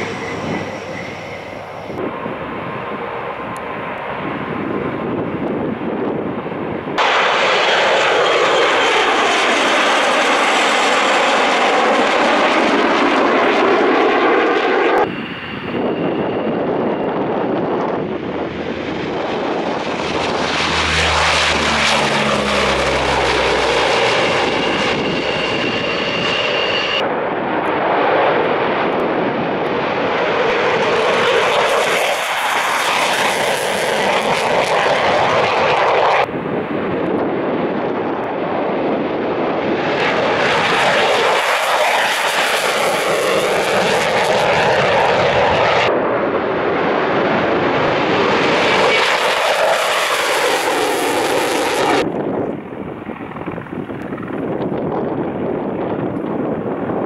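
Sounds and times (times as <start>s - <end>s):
fighter jets taking off: 0.0s - 57.0s
turboprop propeller drone: 0.0s - 57.0s.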